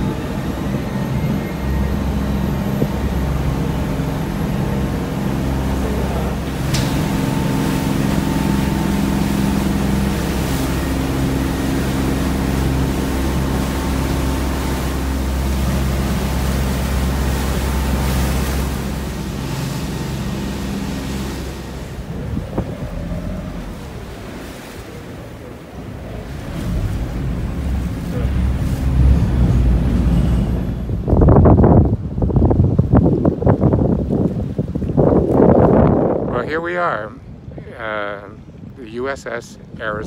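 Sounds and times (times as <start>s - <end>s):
boat engine running: 0.0s - 40.0s
water rushing along hull: 0.0s - 40.0s
wind buffeting microphone: 0.0s - 40.0s.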